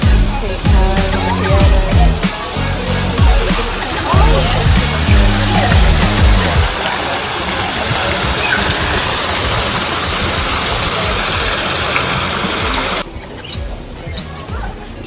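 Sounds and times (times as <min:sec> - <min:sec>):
background music: 0:00.0 - 0:15.0
steady rushing noise: 0:00.0 - 0:15.0.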